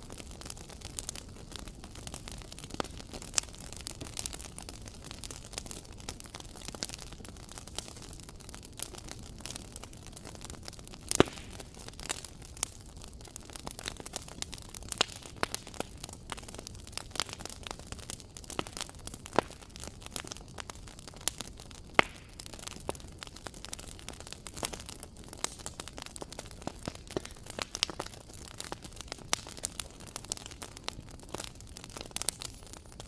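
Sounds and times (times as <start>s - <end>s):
low rumble and hiss of fire: 0.0s - 33.0s
wood fire crackling: 0.0s - 33.0s.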